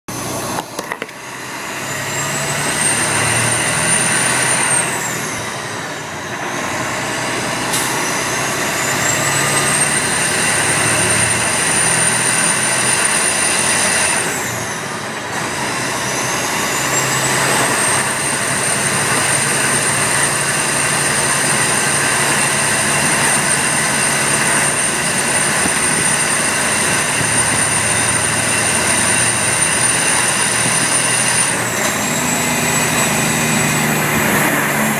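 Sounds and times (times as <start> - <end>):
diesel engine drone: 0.1 - 34.9
turbocharger whistling: 1.2 - 34.9.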